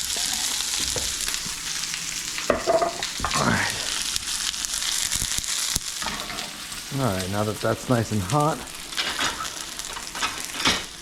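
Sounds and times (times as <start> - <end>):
frying pan sizzling: 0.0 - 11.0.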